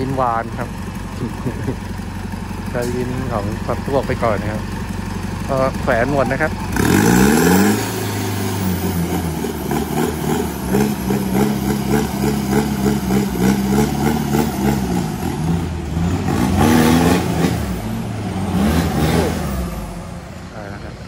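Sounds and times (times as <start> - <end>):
off-road engine revving under load: 0.0 - 21.0.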